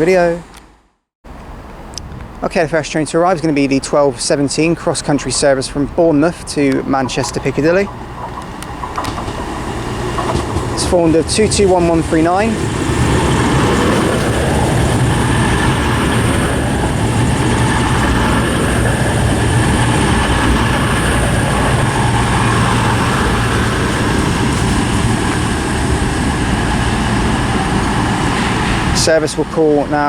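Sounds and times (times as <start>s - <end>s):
diesel train engines droning: 0.0s - 30.0s.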